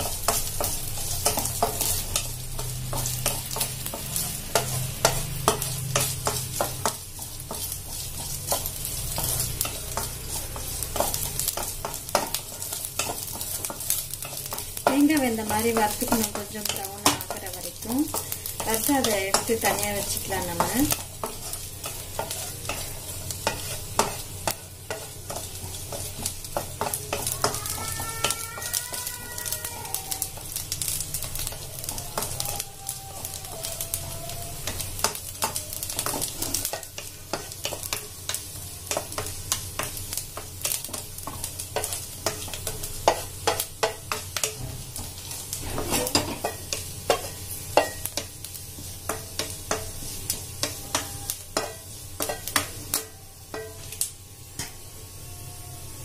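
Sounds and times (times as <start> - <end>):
wooden spatula scraping a pan: 0.0 - 29.6, 34.7 - 53.9
coconut pieces sizzling: 0.0 - 56.0.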